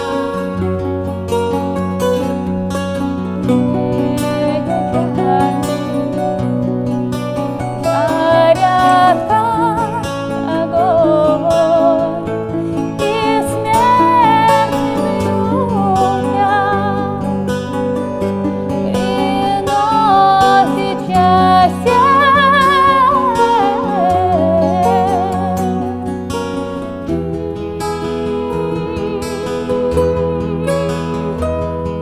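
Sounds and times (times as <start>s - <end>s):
acoustic guitar: 0.0s - 32.0s
plucked bouzouki: 0.0s - 32.0s
woman singing with vibrato: 2.7s - 32.0s.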